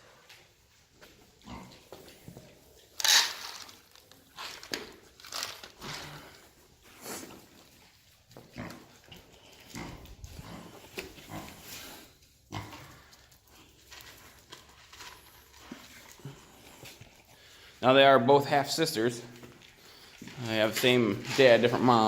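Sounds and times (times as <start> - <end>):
pigs grunting and snorting: 1.3 - 2.0, 2.8 - 22.0.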